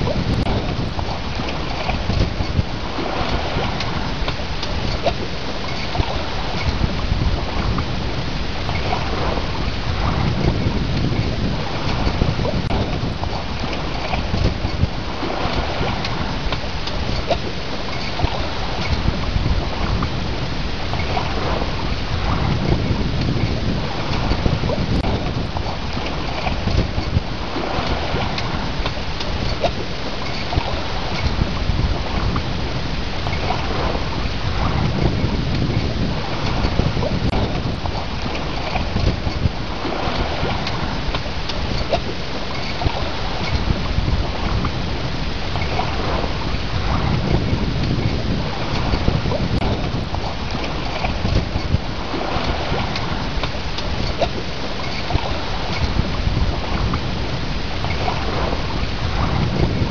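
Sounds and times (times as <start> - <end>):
water splashing along hull: 0.0 - 59.9
wind buffeting microphone: 0.0 - 59.9.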